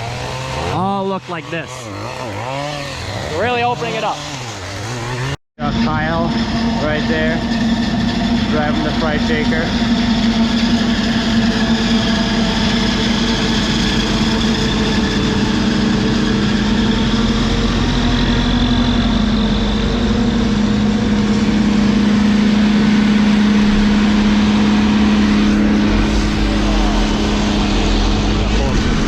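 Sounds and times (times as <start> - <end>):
heavy machine engine humming: 0.0 - 29.0.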